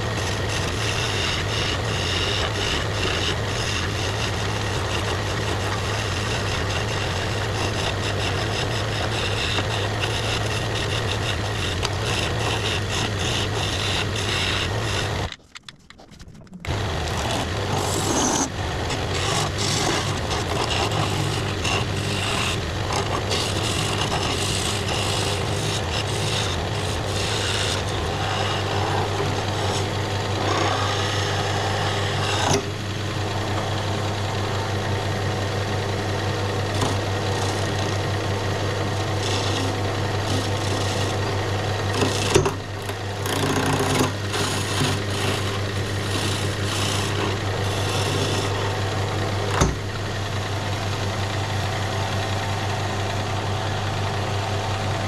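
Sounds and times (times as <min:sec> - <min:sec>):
lathe motor humming: 0:00.0 - 0:15.4, 0:16.7 - 0:55.0
chisel cutting spinning wood: 0:00.0 - 0:55.0.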